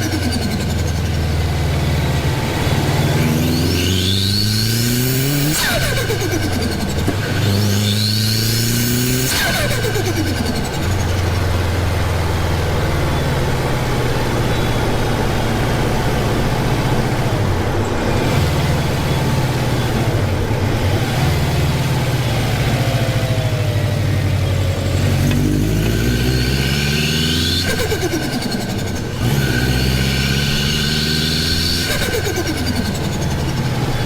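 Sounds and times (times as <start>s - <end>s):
car engine running loud: 0.0s - 34.0s.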